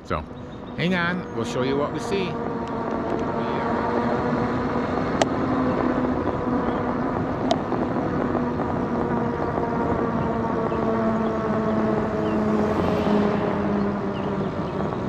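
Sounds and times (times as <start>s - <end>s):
wind and tyre noise: 0.0s - 15.0s.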